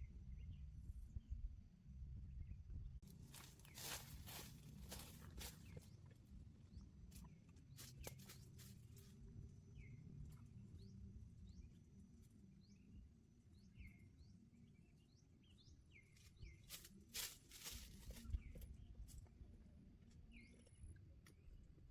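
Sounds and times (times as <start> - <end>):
low outdoor rumble: 0.0 - 21.9.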